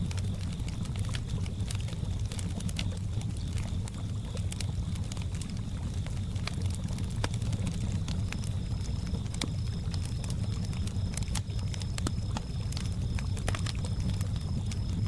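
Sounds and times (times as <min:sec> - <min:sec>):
campfire crackling and popping: 0:00.0 - 0:15.0
crickets chirring: 0:00.0 - 0:15.0.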